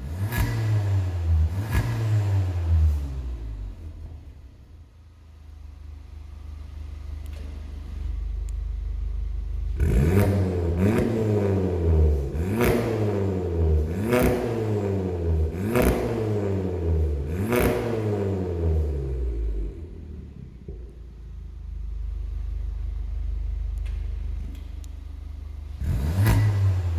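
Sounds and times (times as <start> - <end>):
car engine revving: 0.0 - 4.4, 8.7 - 26.9
car engine idling: 1.0 - 15.7, 18.5 - 26.9.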